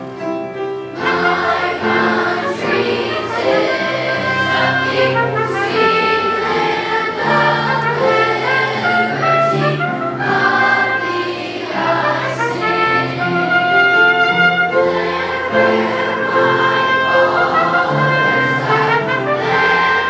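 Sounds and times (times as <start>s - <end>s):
children's choir singing: 0.0s - 20.0s
instrumental accompaniment: 0.0s - 20.0s.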